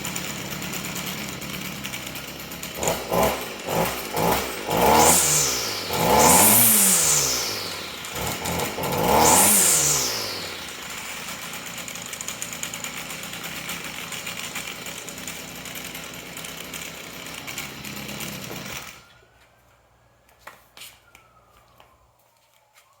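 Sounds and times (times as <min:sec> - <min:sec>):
string trimmer engine running: 0:00.0 - 0:19.2.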